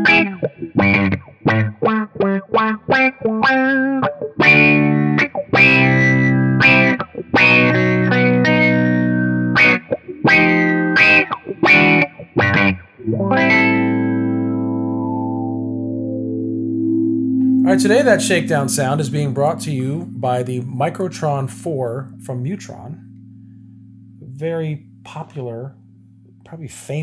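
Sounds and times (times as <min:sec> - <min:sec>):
electric guitar with wah-like filter: 0:00.0 - 0:27.0.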